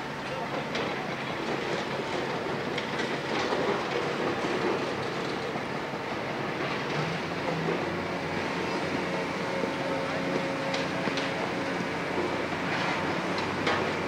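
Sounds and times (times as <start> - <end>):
wheels clacking over rail joints: 0.3 - 8.0, 8.6 - 14.0.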